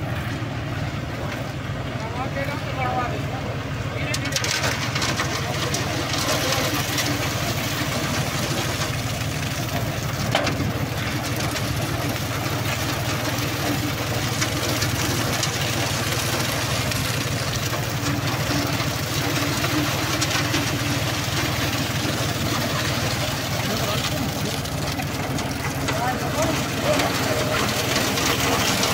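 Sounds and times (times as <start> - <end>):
tractor engine running: 0.0 - 28.9
concrete pouring down chute: 3.9 - 28.9.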